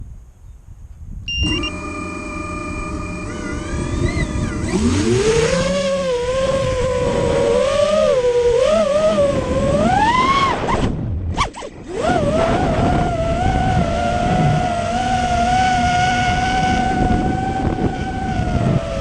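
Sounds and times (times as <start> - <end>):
racing drone motors whining: 1.3 - 19.0.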